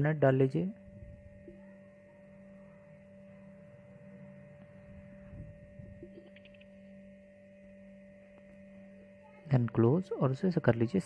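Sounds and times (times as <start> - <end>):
copier humming: 0.0 - 11.0.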